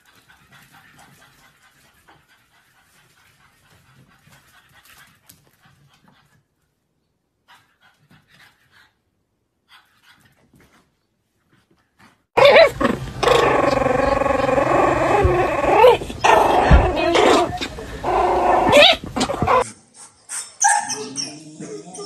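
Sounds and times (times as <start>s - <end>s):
small dog panting: 0.0s - 6.6s, 7.4s - 9.0s, 9.6s - 19.6s.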